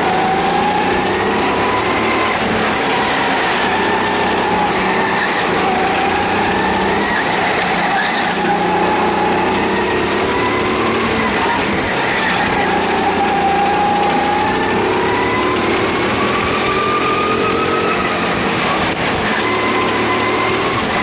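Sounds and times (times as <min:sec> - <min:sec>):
go-kart engine running: 0:00.0 - 0:21.0.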